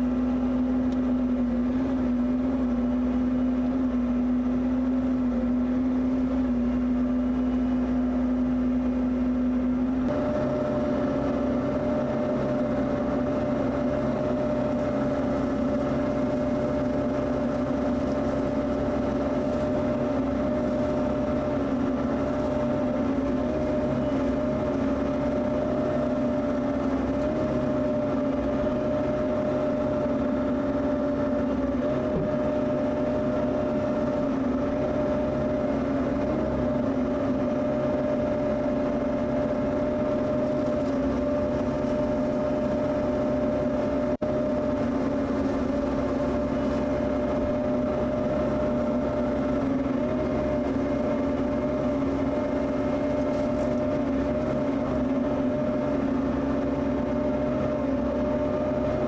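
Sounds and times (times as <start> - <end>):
diesel engine running under load: 0.0 - 59.0
rotary brush cutter whine: 0.0 - 59.0.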